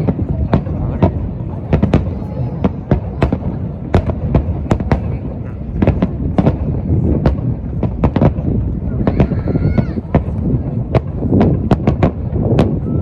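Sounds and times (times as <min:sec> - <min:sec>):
fireworks bursting with sharp bangs: 0:00.0 - 0:13.0
low rumble of booms: 0:00.0 - 0:13.0.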